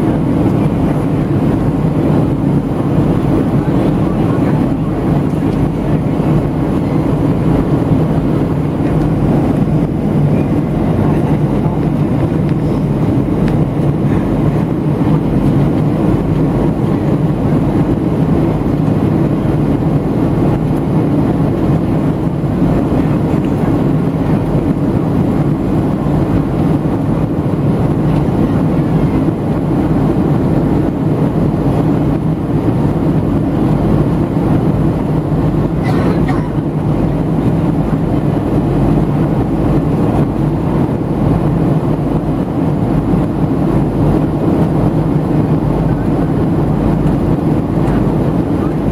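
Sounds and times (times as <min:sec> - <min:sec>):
jet engines droning: 0:00.0 - 0:48.9
rushing airflow: 0:00.0 - 0:48.9.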